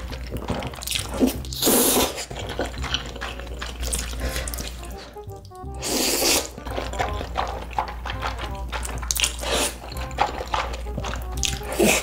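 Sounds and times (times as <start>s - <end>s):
music: 0.0s - 12.0s
noodle slurp: 0.0s - 12.0s
wet chewing: 0.0s - 12.0s.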